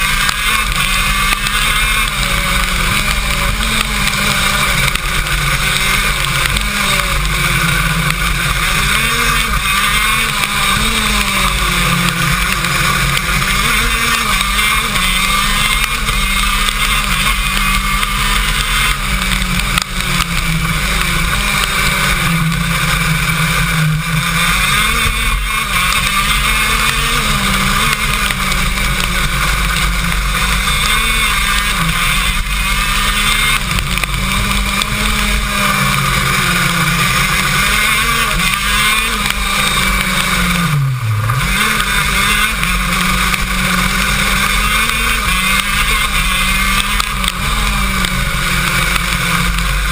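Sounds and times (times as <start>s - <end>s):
kart two-stroke engine: 0.0s - 49.9s.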